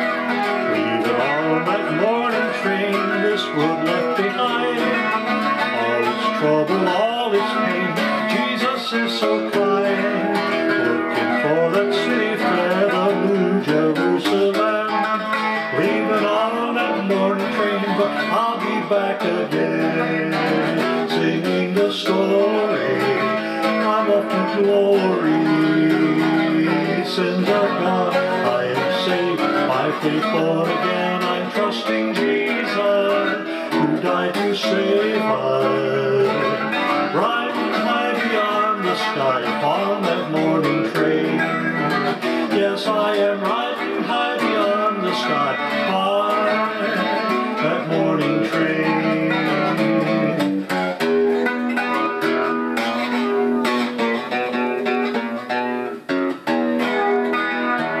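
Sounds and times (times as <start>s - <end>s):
electric guitar instrumental: 0.0s - 58.0s.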